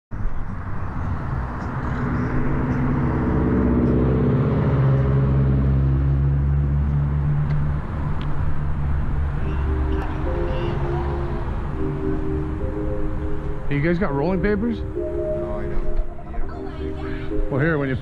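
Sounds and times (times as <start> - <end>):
vehicle engine humming: 0.1 - 18.0
wind and road noise: 0.1 - 18.0.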